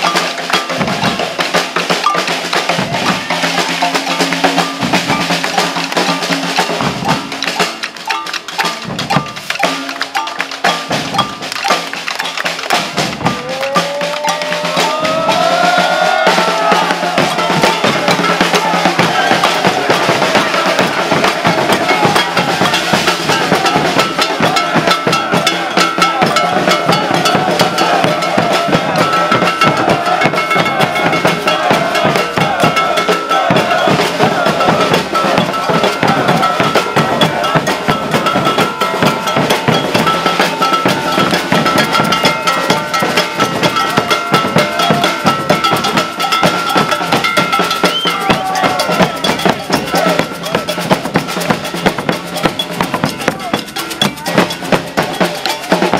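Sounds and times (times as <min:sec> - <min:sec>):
clanging iron bell: 0:00.0 - 0:01.2, 0:01.8 - 0:12.4, 0:14.1 - 0:15.0, 0:16.7 - 0:55.9
bass drums: 0:00.0 - 0:55.9
snare drums: 0:00.0 - 0:55.9.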